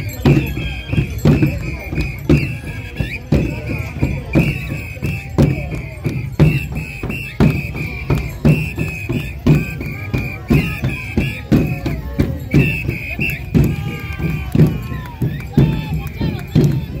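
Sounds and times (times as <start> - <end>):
shrill whistle blasts: 0.0 - 16.1
bass drum beating: 0.0 - 17.0.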